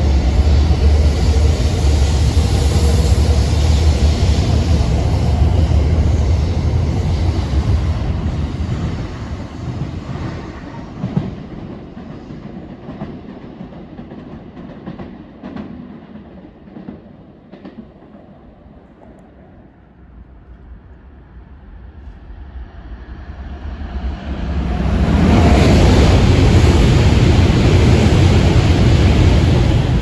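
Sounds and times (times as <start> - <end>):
approaching train rushing: 0.0 - 30.0
train passing: 0.0 - 30.0.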